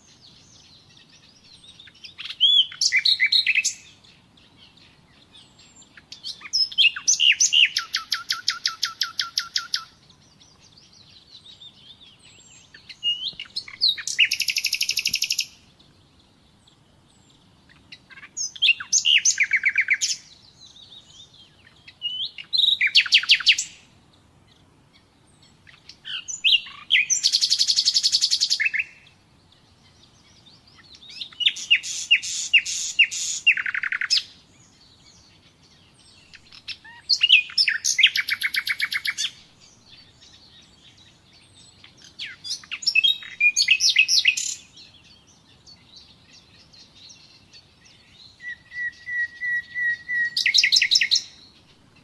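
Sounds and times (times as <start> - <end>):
nightingale singing: 0.0 - 52.0.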